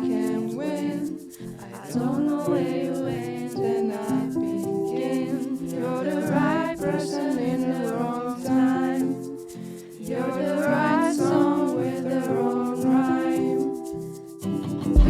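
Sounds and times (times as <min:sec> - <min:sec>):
wordless sung vocals: 0:00.0 - 0:14.1.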